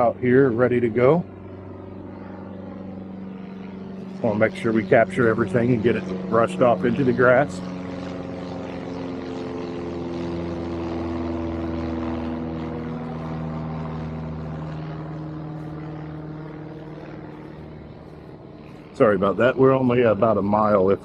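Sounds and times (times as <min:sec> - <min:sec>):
propeller airplane passing overhead: 0:00.0 - 0:21.0.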